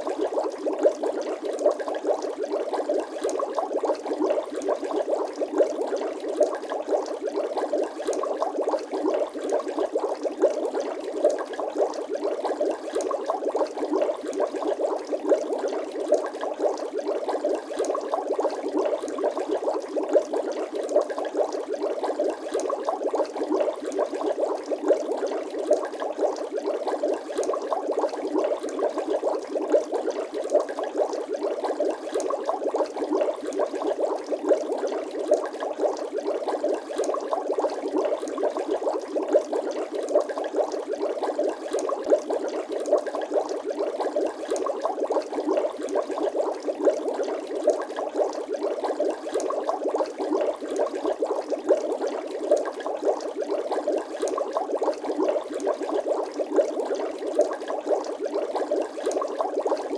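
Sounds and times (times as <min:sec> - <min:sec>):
liquid bubbling: 0:00.0 - 0:59.9.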